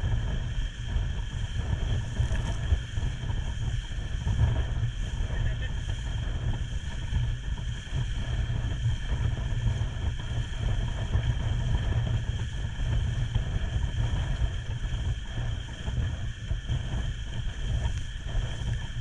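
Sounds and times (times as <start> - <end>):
boat engine drone: 0.0 - 19.0
wind buffeting microphone: 0.0 - 19.0.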